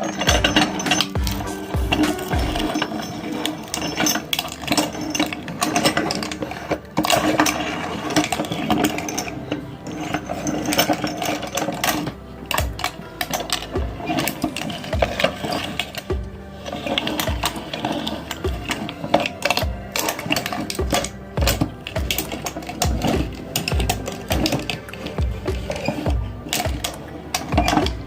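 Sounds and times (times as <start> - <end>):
marbles clattering and cracking: 0.0 - 28.0.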